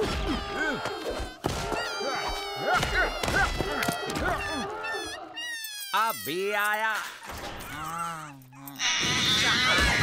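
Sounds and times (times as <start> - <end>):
cartoon baby crying: 0.1 - 6.7, 8.3 - 10.0.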